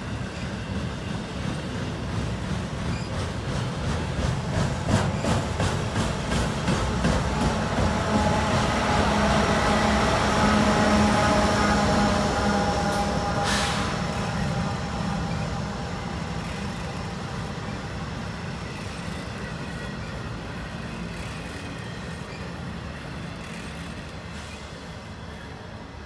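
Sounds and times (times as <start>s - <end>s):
diesel locomotive engine: 0.0s - 26.0s
freight train rolling past: 0.0s - 26.0s
wheels rumbling on rails: 0.0s - 26.0s.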